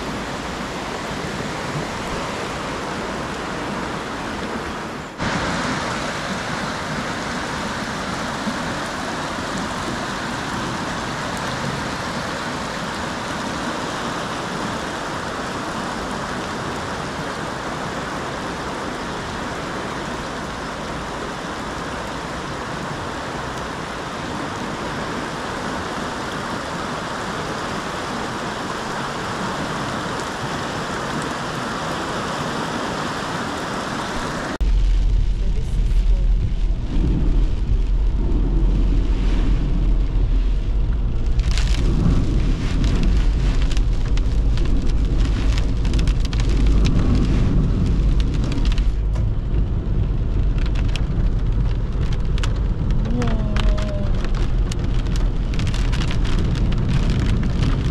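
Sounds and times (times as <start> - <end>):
floodwater rushing: 0.0 - 57.9.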